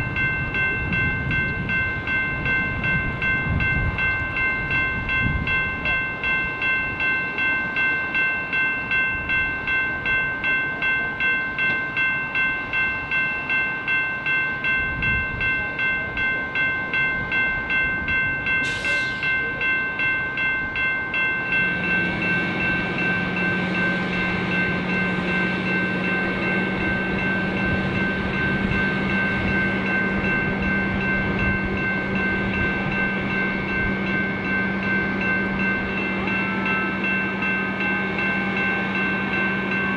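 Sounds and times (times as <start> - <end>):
railroad bell clanging: 0.0 - 39.9.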